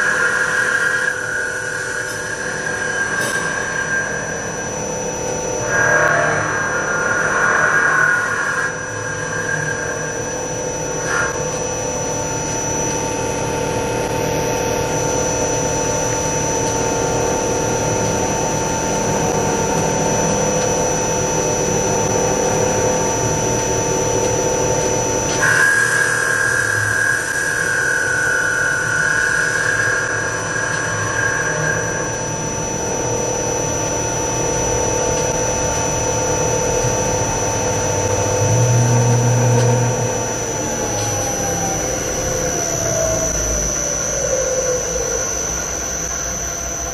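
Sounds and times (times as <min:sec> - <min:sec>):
wood lathe hum and whine: 0:00.0 - 0:46.9.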